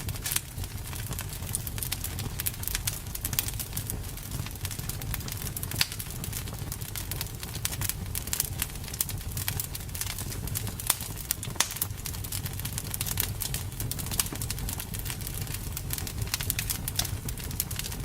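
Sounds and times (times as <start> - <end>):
burning wood popping and snapping: 0.0 - 18.0
low rumble of flames: 0.0 - 18.0.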